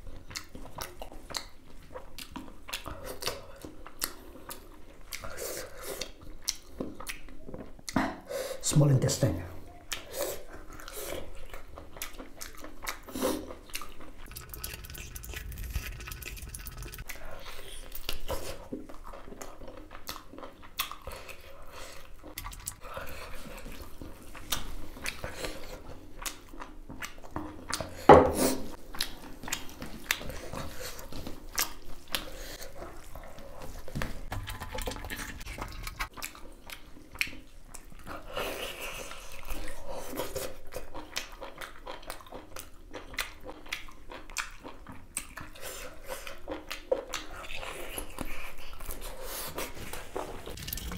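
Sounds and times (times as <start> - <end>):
person chewing wetly: 0.0 - 8.1, 9.6 - 50.9.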